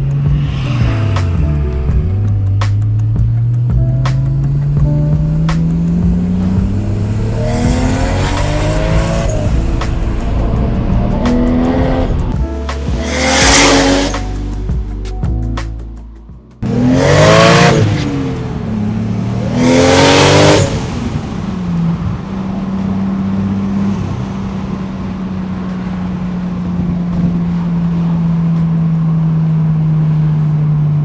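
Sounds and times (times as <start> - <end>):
car engine accelerating: 0.0 - 16.0, 16.6 - 31.0.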